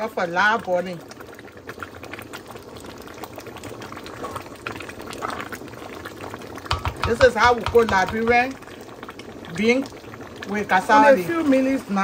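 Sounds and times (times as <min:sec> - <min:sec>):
soup boiling with bubbling pops: 0:00.0 - 0:12.0.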